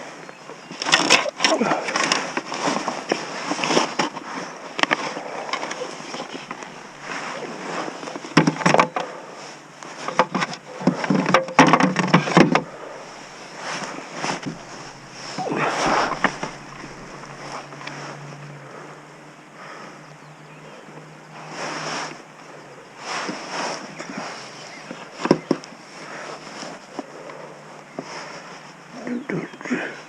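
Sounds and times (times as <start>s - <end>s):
faint water and wind: 0.0s - 30.0s.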